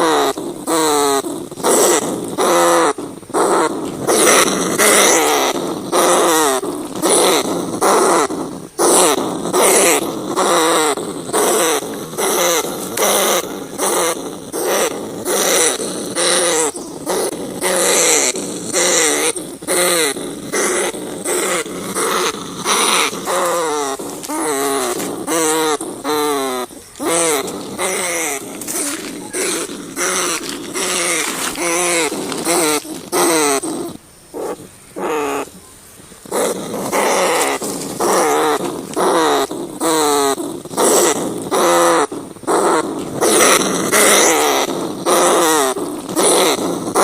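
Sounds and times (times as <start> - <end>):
rats squealing and chattering: 0.0 - 47.0.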